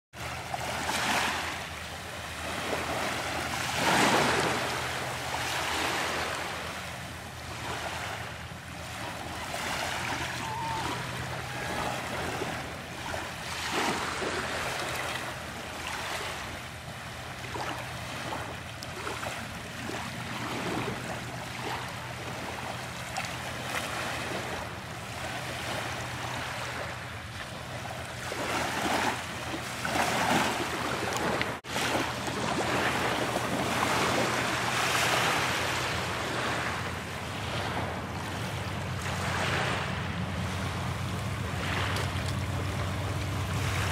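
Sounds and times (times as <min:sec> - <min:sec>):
surf washing onto beach: 0:00.2 - 0:43.9.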